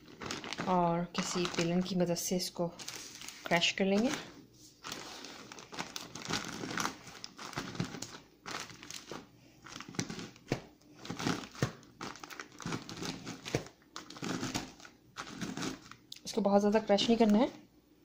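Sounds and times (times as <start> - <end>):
cookies cracking: 0.0 - 2.0, 2.8 - 16.3
plastic bag crinkling: 0.0 - 17.5.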